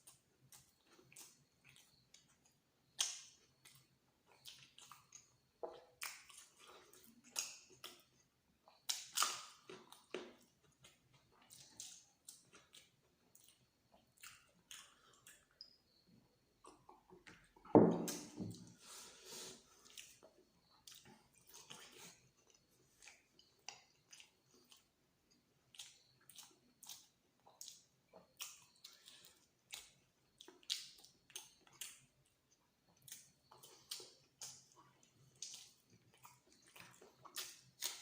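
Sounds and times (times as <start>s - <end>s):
person chewing and lip smacking: 0.0s - 15.8s, 16.6s - 18.3s, 19.8s - 38.0s.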